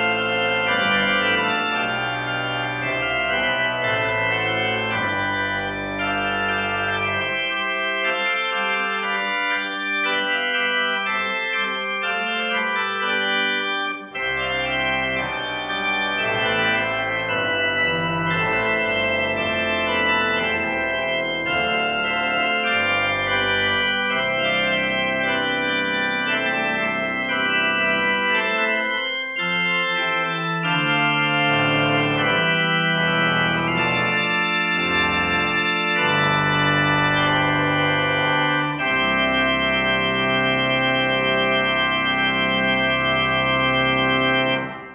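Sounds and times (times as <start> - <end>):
church organ chords: 0.0 - 44.9
deep organ pedal bass: 0.0 - 44.9.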